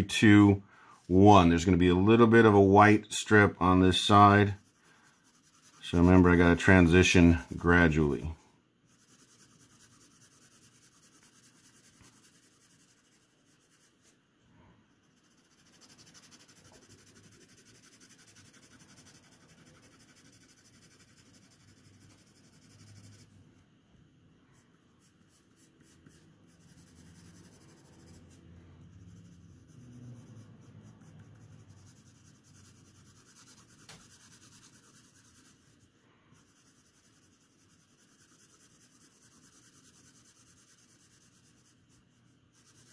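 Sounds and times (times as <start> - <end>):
pencil shading paper: 0.0 - 14.3, 14.9 - 23.4, 24.5 - 42.9.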